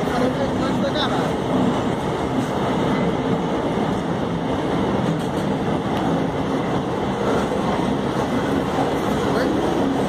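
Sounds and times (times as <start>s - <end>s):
freight train rolling rumble: 0.0s - 10.0s.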